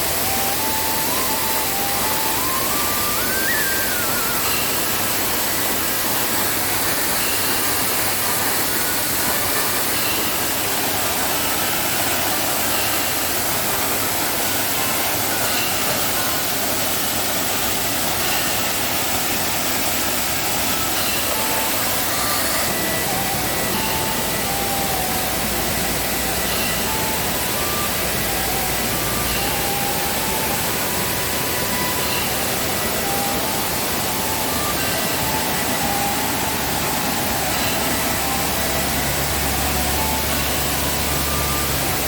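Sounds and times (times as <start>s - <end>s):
waterfall pouring and rushing: 0.0s - 42.0s.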